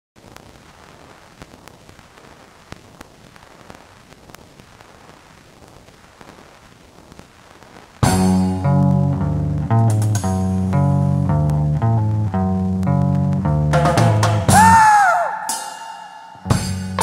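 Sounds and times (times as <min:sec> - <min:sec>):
crackling clicks: 0:00.2 - 0:14.4
static hiss: 0:00.2 - 0:17.0.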